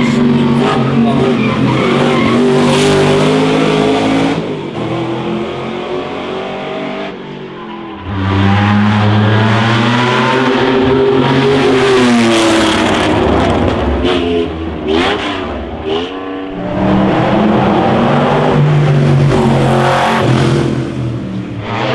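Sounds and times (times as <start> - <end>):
racing car engines at high revs: 0.0 - 21.9.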